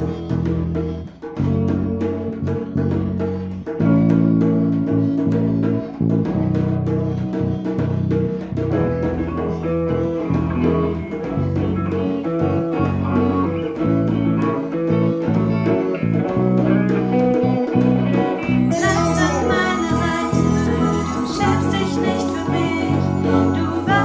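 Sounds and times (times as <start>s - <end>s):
bass guitar: 0.0s - 24.0s
electric guitar: 0.0s - 24.0s
percussion beat: 0.0s - 24.0s.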